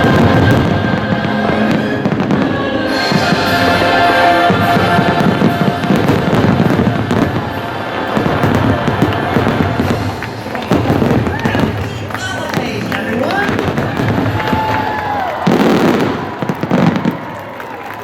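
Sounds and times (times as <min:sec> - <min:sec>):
loud show music: 0:00.0 - 0:14.6
fireworks bursting and popping: 0:00.0 - 0:17.6.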